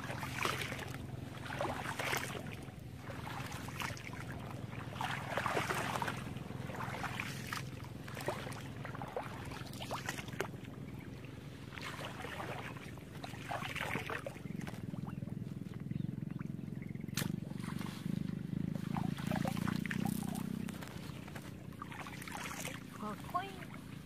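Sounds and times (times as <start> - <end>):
steady low rumble: 0.0 - 24.0
water splashing from wading: 0.0 - 24.0.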